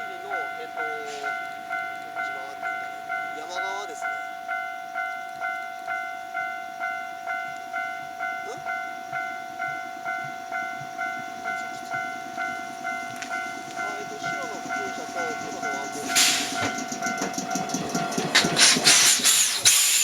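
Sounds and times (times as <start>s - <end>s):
level crossing alarm bell ringing: 0.0s - 20.0s.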